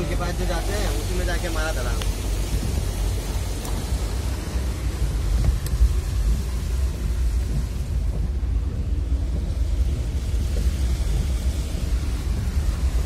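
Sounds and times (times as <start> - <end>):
car cabin rumble and hiss: 0.0 - 13.0.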